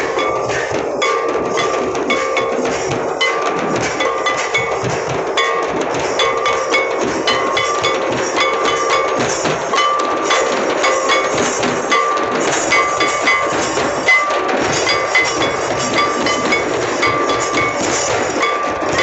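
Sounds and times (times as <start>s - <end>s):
large drum beaten with sticks: 0.0s - 19.0s
ringing metallic clink: 0.0s - 19.0s.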